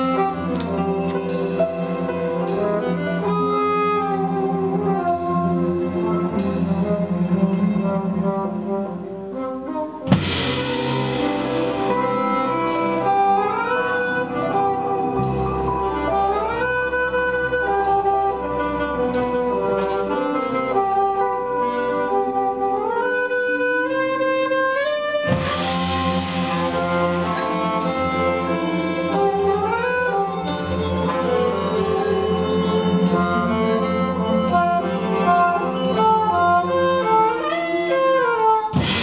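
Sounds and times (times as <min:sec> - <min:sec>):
deeper musical part: 0:00.0 - 0:24.1, 0:25.0 - 0:39.0
held lower notes: 0:00.0 - 0:39.0
saxophone melody: 0:00.0 - 0:39.0.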